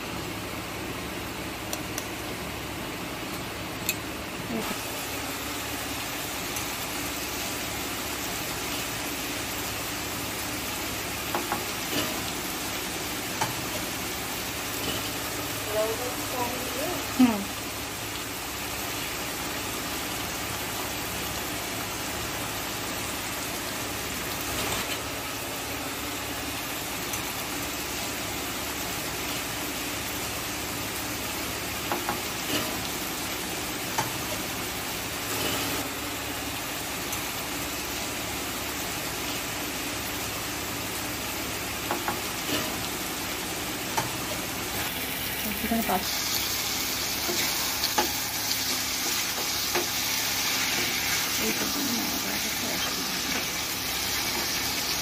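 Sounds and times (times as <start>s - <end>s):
onions frying in oil: 0.0s - 55.0s.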